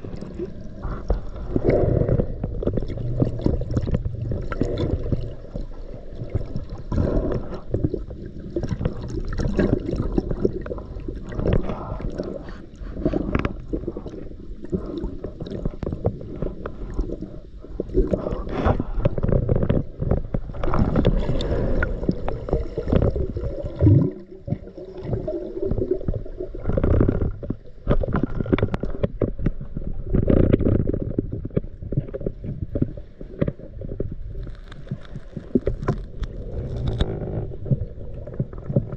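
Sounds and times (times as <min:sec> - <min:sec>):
underwater knocks and clicks: 0:00.0 - 0:12.3, 0:13.0 - 0:38.9
muffled underwater gurgling rush: 0:00.0 - 0:38.9.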